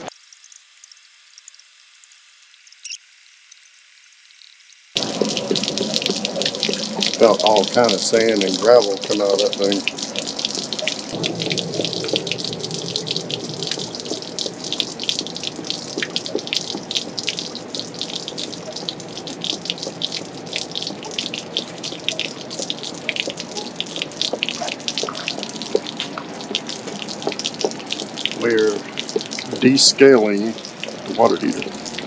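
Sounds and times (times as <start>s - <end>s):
water pouring and splashing: 0.0s - 32.0s.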